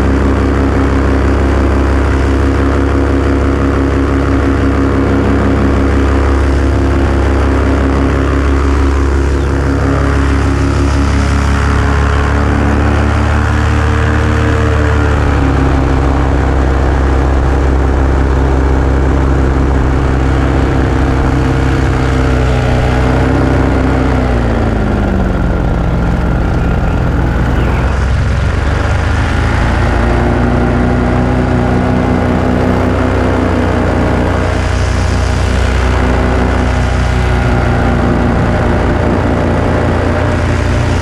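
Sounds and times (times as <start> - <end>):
propeller aircraft engine: 0.0 - 41.0.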